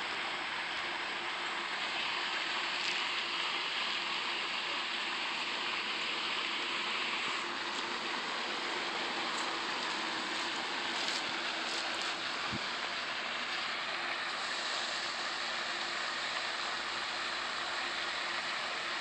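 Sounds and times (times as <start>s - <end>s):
faint steady hum: 0.0s - 19.0s
running water: 0.0s - 19.0s.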